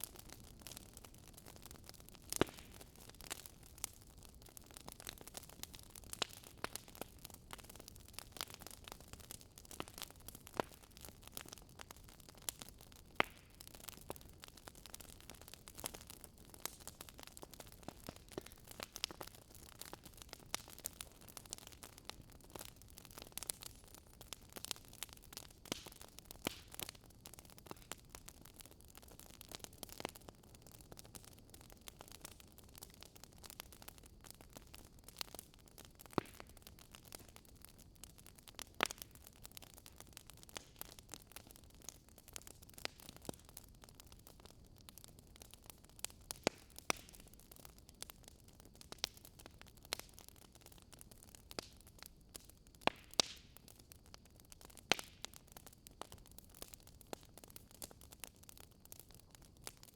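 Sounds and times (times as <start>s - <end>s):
fireplace crackling: 0.0s - 53.9s.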